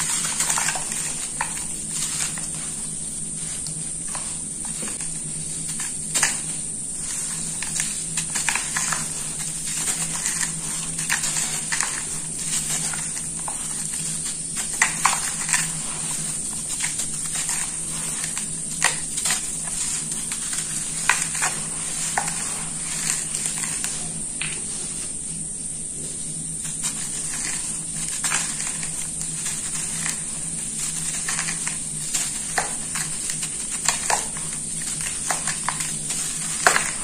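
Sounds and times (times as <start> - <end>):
sand mix crunching by hand: 0.0 - 25.4, 26.0 - 37.0
sand trickling: 0.0 - 37.0
steady hum and hiss: 0.0 - 37.0.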